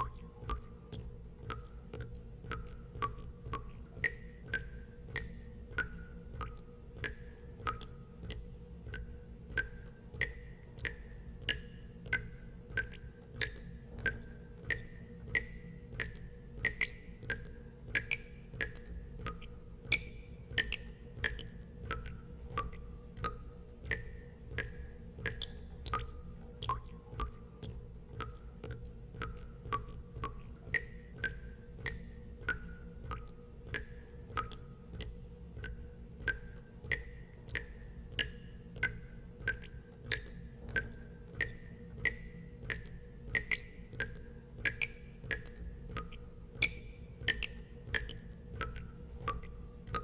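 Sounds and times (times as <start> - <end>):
water drops plinking into water: 0.0 - 50.0.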